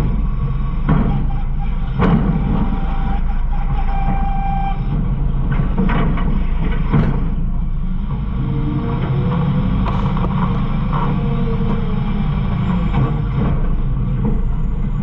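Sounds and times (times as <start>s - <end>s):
garbage truck rumbling: 0.0s - 15.0s
knocks and clanks: 0.0s - 15.0s
steady whine: 0.0s - 15.0s.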